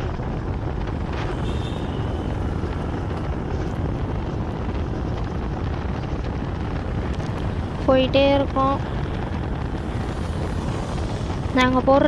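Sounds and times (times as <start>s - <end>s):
vehicle engine and road noise: 0.0s - 12.0s
wind buffeting microphone: 0.0s - 12.0s.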